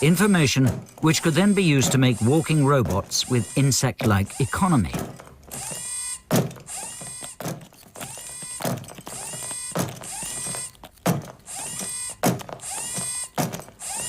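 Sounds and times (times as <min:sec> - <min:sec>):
robot leg motors whirring: 0:00.0 - 0:14.0
robot legs knocking: 0:00.0 - 0:14.0.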